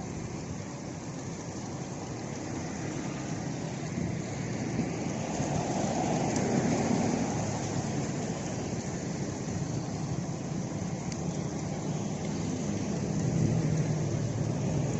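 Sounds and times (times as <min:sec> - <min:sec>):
wind rumbling across microphone: 0:02.1 - 0:14.9.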